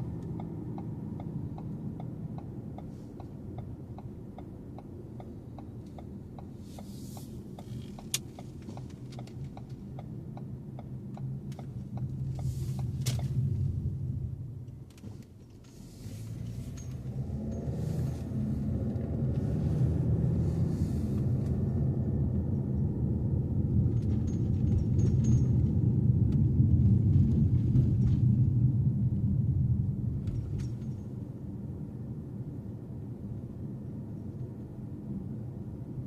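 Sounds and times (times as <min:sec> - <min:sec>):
car engine: 0:00.0 - 0:36.0
road rumble: 0:00.0 - 0:36.0.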